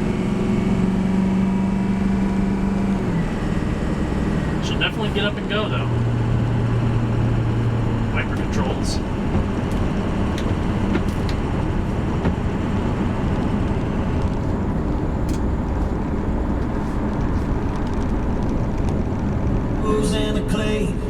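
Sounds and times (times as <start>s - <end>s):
diesel truck engine: 0.0s - 21.0s
road noise inside cab: 0.0s - 21.0s.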